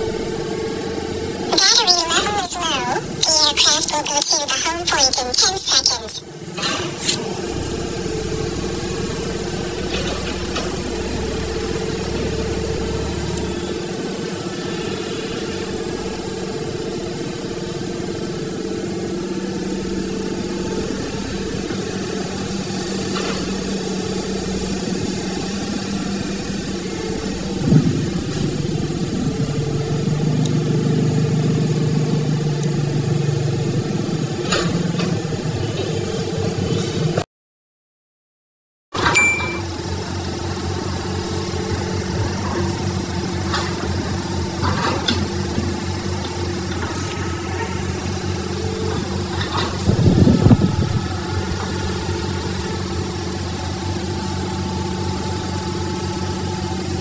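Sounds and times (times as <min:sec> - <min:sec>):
engine running steadily: 0:00.0 - 0:37.2, 0:39.0 - 0:57.0.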